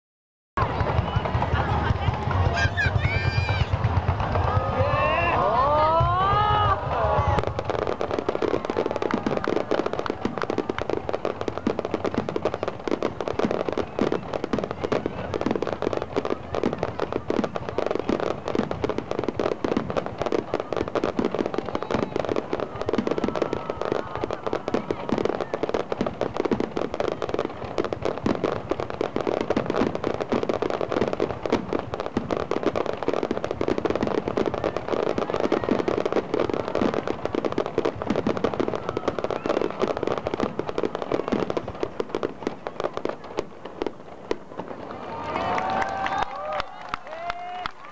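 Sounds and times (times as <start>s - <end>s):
fireworks bangs and crackling: 0.6s - 47.9s.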